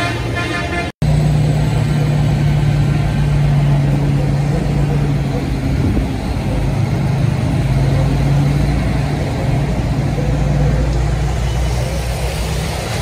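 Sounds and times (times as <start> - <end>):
tractor diesel engines driving past: 0.0 - 13.0.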